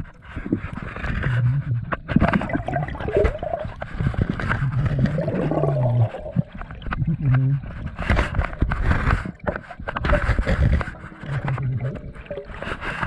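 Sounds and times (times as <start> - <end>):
water gurgling underwater: 0.0 - 13.0.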